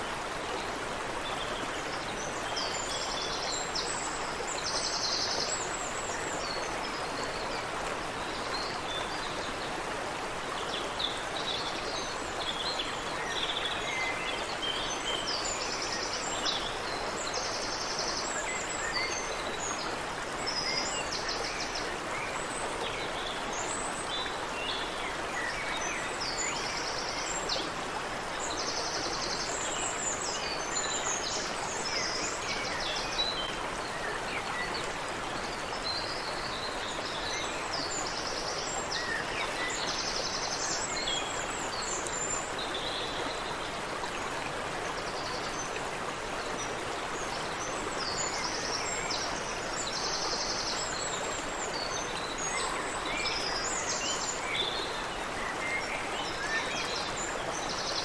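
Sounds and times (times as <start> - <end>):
creek water running: 0.0 - 58.0.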